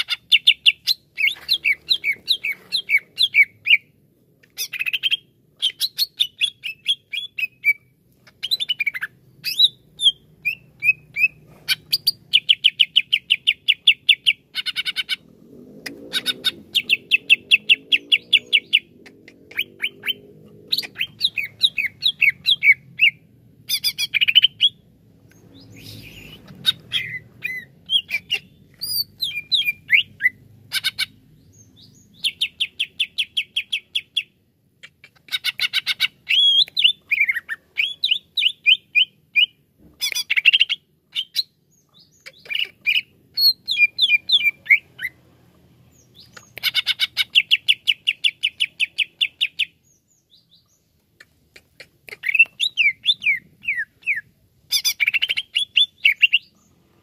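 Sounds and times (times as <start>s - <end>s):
bird singing: 0.0s - 15.2s, 15.9s - 34.4s, 35.0s - 45.2s, 45.9s - 50.9s, 52.2s - 56.8s.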